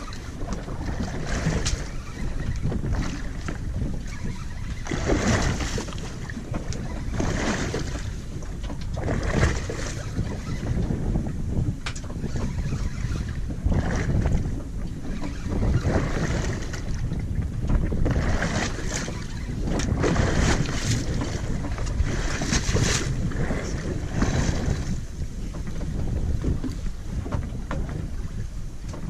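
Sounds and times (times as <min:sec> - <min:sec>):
water splashing against hull: 0:00.0 - 0:29.0
wind buffeting microphone: 0:00.0 - 0:29.0.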